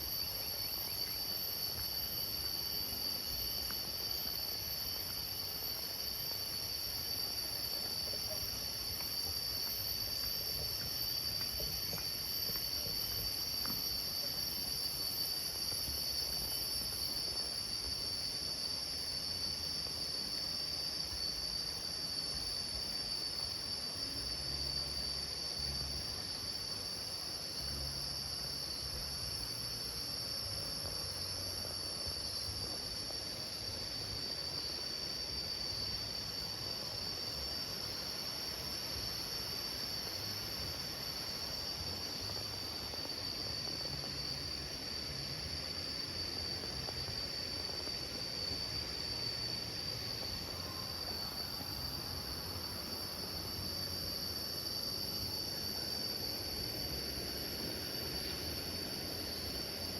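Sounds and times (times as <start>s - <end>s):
chorus of forest insects: 0.0s - 59.9s.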